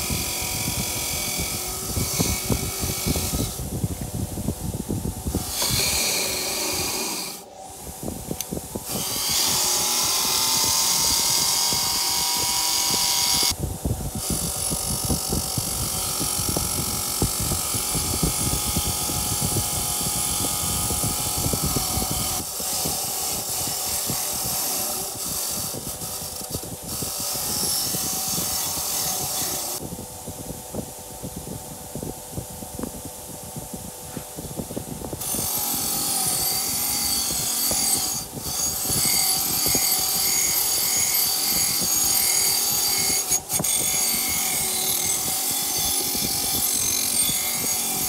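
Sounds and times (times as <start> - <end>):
bench grinder grinding metal: 0.0 - 3.7, 5.2 - 7.6, 8.4 - 13.6, 14.2 - 29.8, 35.2 - 48.0.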